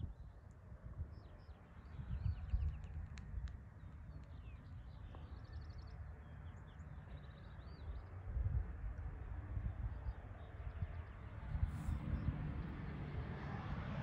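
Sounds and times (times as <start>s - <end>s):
songbirds chirping: 0.0s - 12.9s
wind rumble on microphone: 0.0s - 14.0s.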